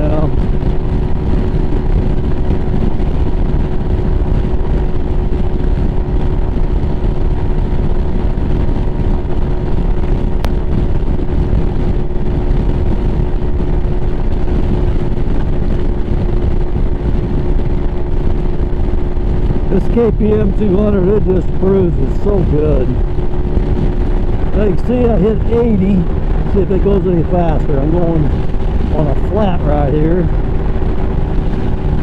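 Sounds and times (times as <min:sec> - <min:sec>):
motorcycle engine at high revs: 0:00.0 - 0:32.0
wind rush on microphone: 0:00.0 - 0:32.0.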